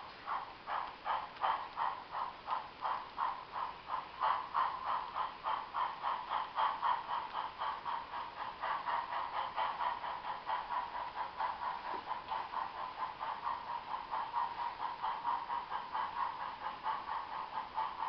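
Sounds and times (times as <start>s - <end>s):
model train clattering on track: 0.0s - 18.0s.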